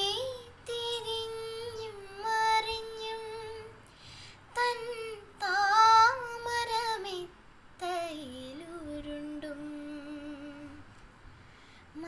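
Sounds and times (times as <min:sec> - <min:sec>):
girl singing unaccompanied: 0:00.0 - 0:10.9.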